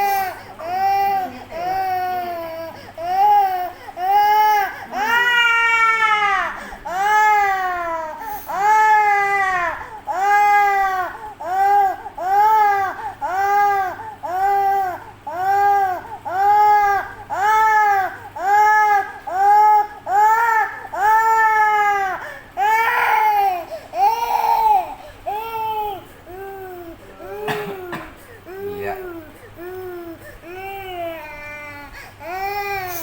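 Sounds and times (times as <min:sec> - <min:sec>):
loud insistent crying: 0:00.0 - 0:26.5.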